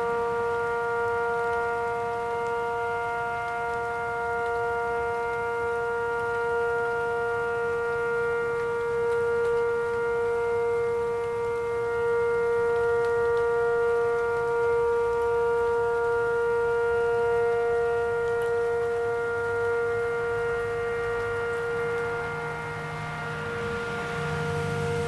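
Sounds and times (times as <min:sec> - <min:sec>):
tornado warning siren steady tone: 0:00.0 - 0:25.0.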